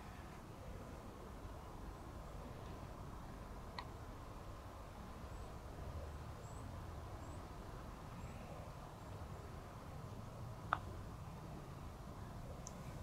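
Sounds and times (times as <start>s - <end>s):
low outdoor background: 0.0s - 13.0s.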